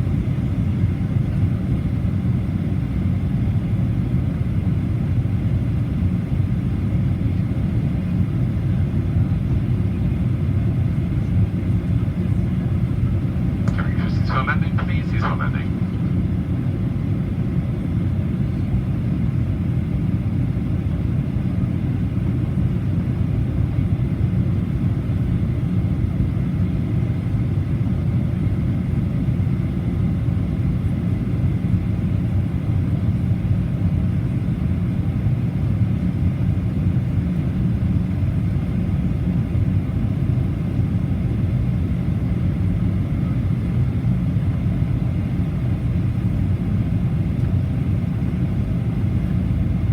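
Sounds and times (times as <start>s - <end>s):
airplane cabin rumble: 0.0s - 49.9s.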